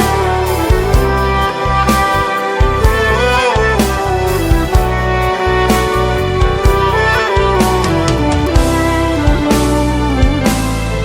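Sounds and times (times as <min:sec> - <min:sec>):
instrumental pop music: 0:00.0 - 0:11.0.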